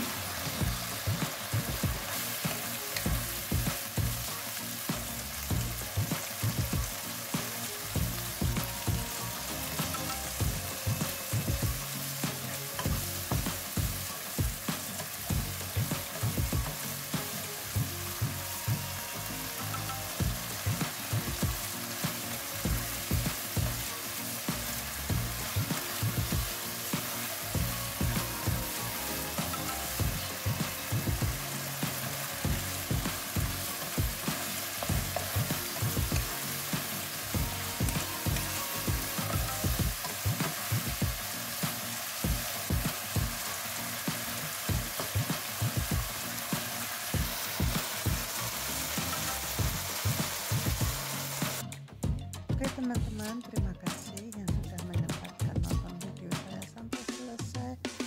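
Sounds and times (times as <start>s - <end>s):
vegetables sizzling in a wok: 0.0s - 51.7s.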